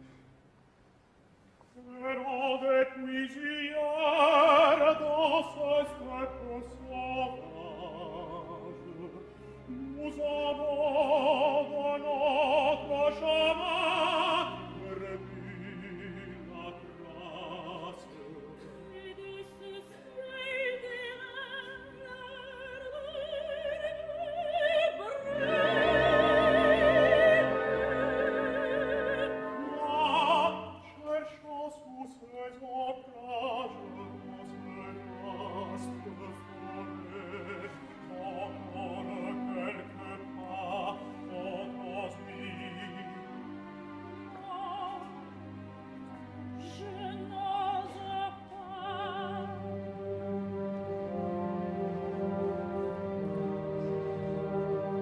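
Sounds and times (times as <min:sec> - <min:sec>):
tenor singing opera: 0:01.7 - 0:55.0
soprano singing opera: 0:01.8 - 0:43.4, 0:44.3 - 0:45.2, 0:46.6 - 0:49.9
orchestral accompaniment: 0:02.2 - 0:31.6, 0:33.2 - 0:55.0.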